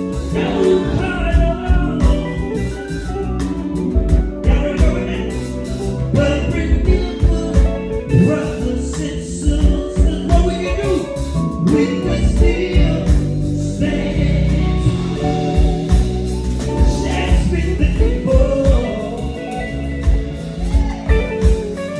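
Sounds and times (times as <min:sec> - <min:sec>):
band music with singing: 0:00.0 - 0:21.9
electric guitar: 0:00.0 - 0:21.9.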